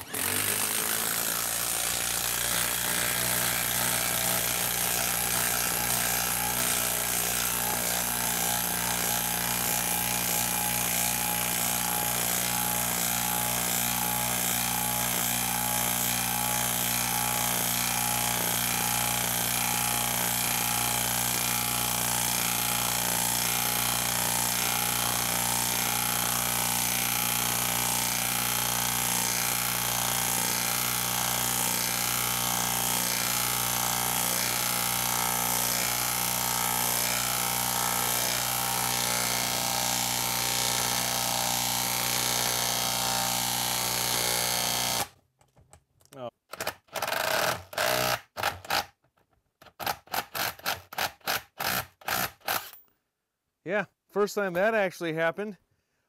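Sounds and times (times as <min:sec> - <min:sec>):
impact wrench hammering: 0:00.0 - 0:45.1.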